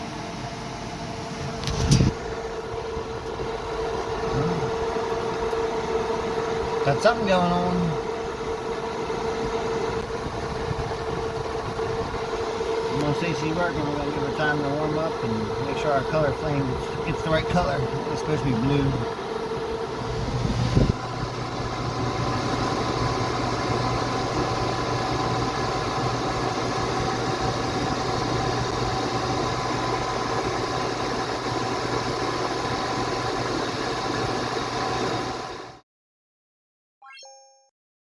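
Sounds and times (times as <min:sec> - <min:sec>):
furnace blower and burner hum: 0:00.0 - 0:35.8.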